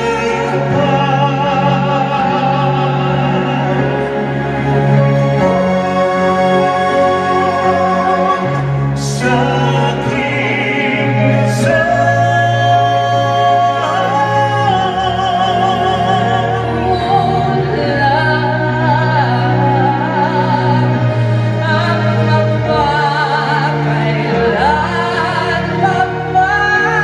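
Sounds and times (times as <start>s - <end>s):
instrumental accompaniment: 0.0s - 27.0s.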